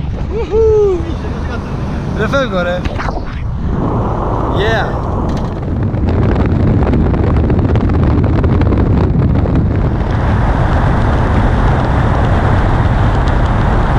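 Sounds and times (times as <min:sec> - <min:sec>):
vehicle running noise: 0:00.0 - 0:13.9
wind and road noise: 0:00.0 - 0:13.9
wind buffeting microphone: 0:00.0 - 0:13.9.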